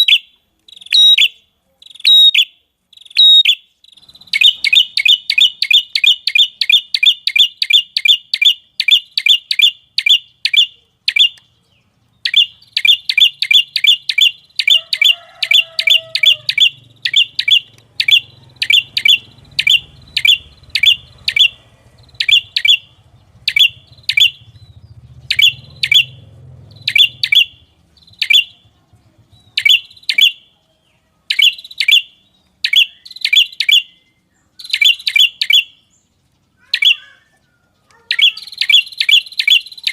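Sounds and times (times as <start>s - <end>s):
songbird chip calls: 0.0s - 39.9s.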